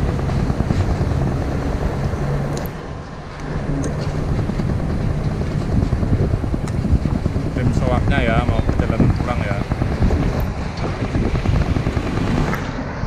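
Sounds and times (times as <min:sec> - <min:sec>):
diesel truck engine: 0:00.0 - 0:13.0
wind buffeting microphone: 0:00.0 - 0:13.0.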